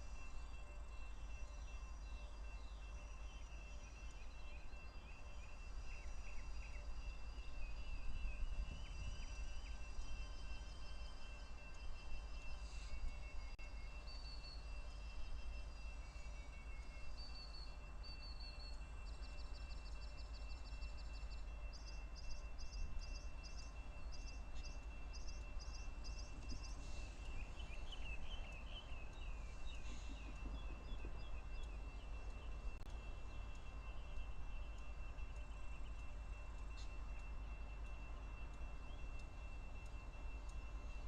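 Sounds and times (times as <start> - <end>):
low background noise: 0.0 - 41.0
songbirds singing: 0.0 - 41.0
thin steady high tone: 0.0 - 41.0.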